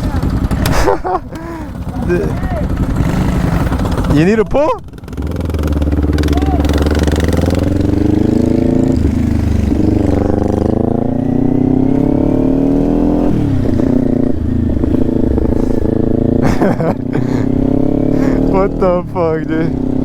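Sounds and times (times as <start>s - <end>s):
motorcycle engine under load: 0.0s - 20.0s.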